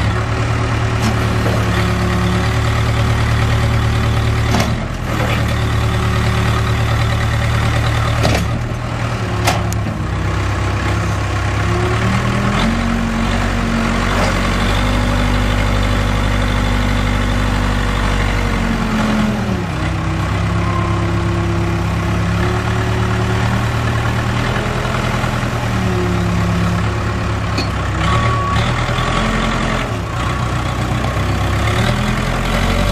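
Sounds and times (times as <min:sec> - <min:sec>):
diesel engine revving: 0:00.0 - 0:32.9.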